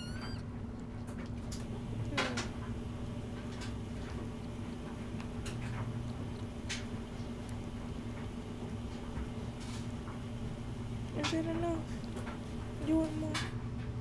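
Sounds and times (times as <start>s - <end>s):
kitten suckling clicks and smacks: 0.0s - 14.0s.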